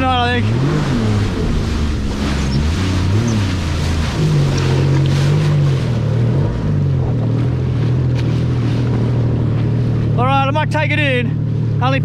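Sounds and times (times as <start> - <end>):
jet ski engine running: 0.0 - 12.0
rush of wind and water: 0.0 - 12.0.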